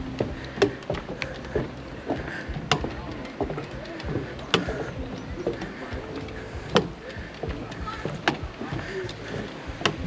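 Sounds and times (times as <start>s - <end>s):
footsteps on wooden deck: 0.0s - 10.0s.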